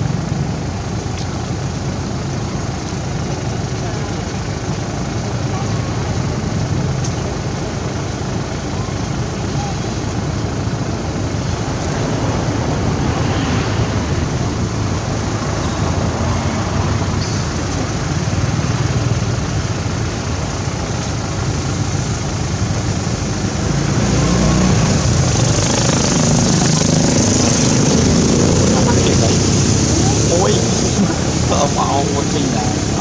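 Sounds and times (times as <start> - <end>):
outdoor background rumble and hiss: 0.0 - 33.0.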